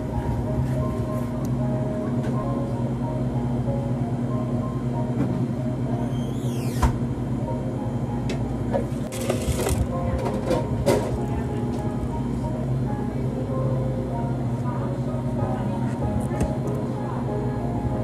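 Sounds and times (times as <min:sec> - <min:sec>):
shop equipment humming: 0:00.0 - 0:18.0.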